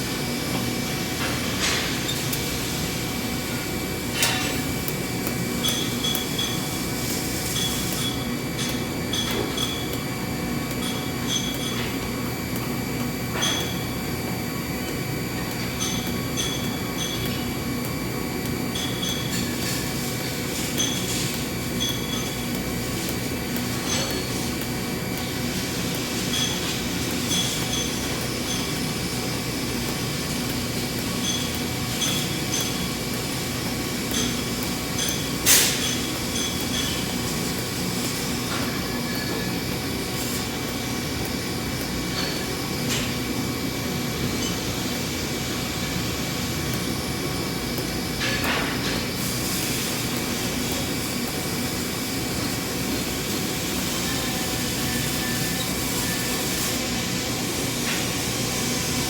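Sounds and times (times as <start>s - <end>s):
metalworking equipment humming: 0.0s - 59.0s.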